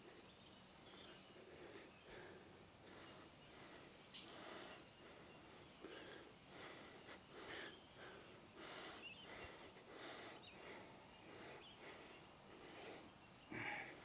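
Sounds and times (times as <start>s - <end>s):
man breathing from exertion: 1.4s - 14.0s.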